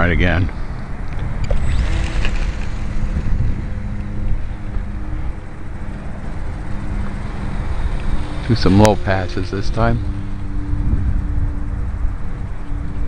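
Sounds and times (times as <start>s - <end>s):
model airplane motor humming: 0.0s - 13.0s
wind buffeting microphone: 0.0s - 13.0s.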